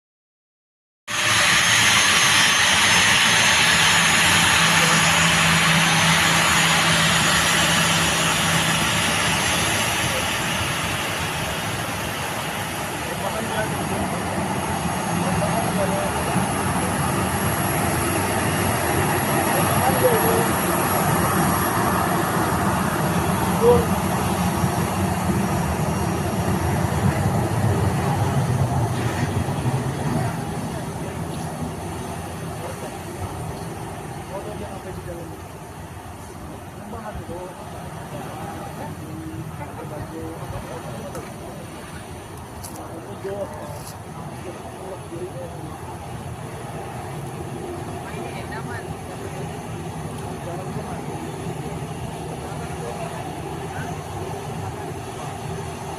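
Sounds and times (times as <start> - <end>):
jet engines at takeoff power: 1.1 - 55.9.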